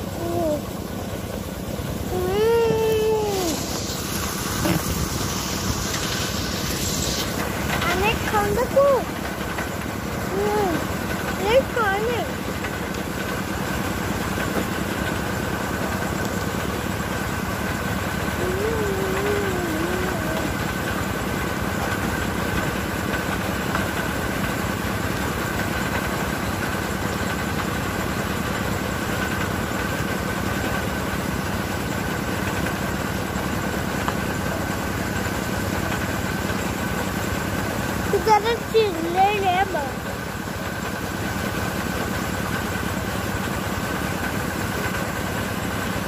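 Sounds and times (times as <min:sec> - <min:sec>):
steady mechanical drone: 0:00.0 - 0:46.0.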